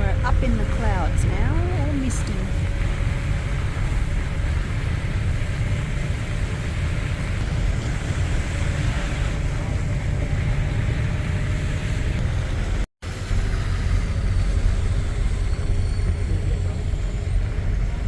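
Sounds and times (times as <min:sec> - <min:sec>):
vehicle road and engine rumble: 0:00.0 - 0:18.0.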